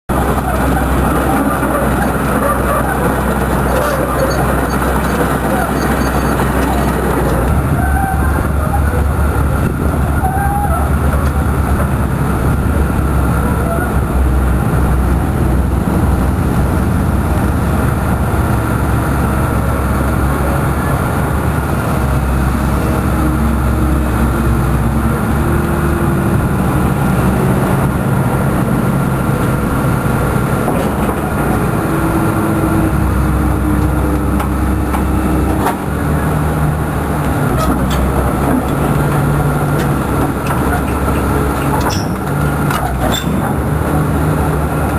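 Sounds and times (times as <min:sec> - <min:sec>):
excavator diesel engine running: 0:00.1 - 0:44.9.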